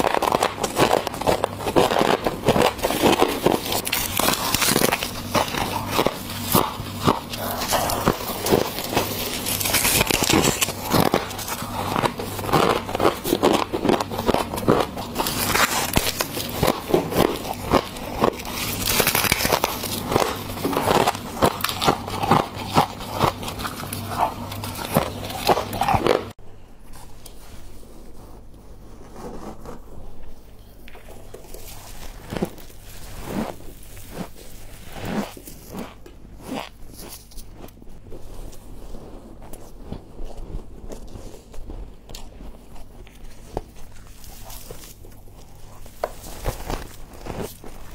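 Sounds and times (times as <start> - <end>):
crunching and chewing frost: 0.0 - 27.4, 28.2 - 47.9.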